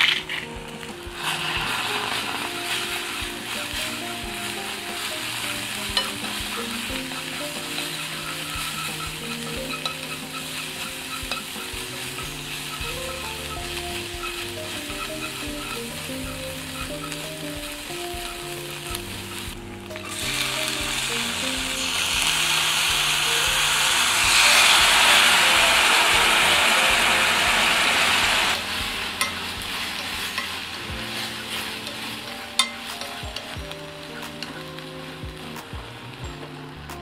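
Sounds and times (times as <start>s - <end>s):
chopsticks stirring in a pan: 0.0s - 36.8s
egg sizzling in a frying pan: 0.0s - 37.0s.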